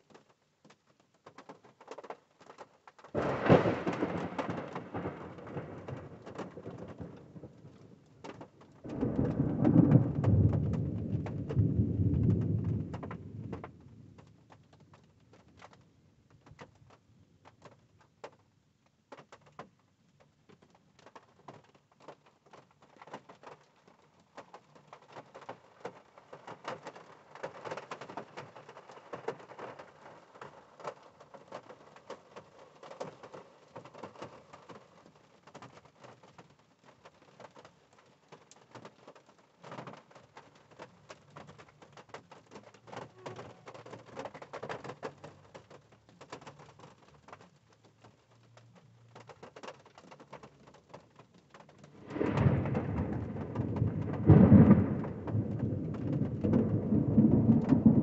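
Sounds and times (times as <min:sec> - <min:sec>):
rain pattering on a car: 0:00.0 - 0:58.0.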